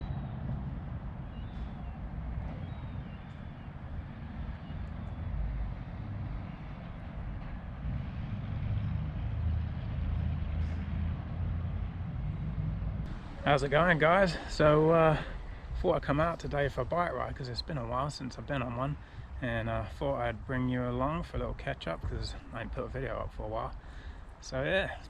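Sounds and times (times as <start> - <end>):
vehicle approaching: 0.0 - 22.9
road traffic rumble: 0.0 - 25.0.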